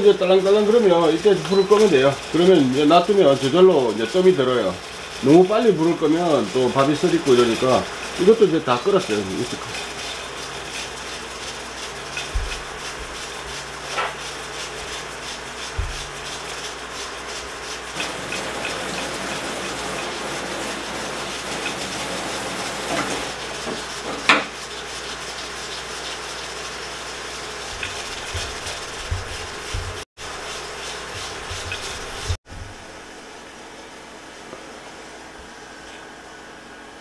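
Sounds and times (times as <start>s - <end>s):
pressure cooker venting steam: 0.0s - 32.4s.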